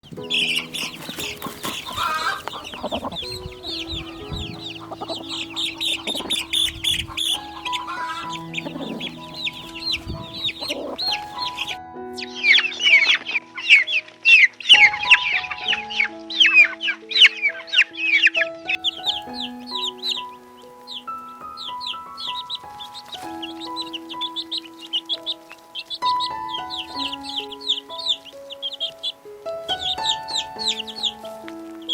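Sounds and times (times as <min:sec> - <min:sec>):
chicks cheeping: 0:00.0 - 0:31.9
soft background music: 0:00.0 - 0:31.9.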